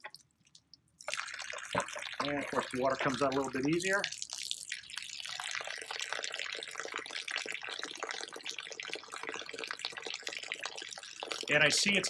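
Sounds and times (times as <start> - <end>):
water draining onto gravel: 1.0 - 12.0.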